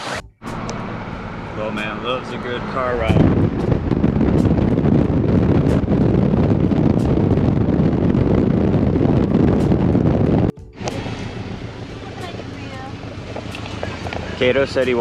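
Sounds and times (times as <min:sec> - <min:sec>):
road noise: 0:00.0 - 0:15.0
wind buffeting microphone: 0:00.5 - 0:15.0.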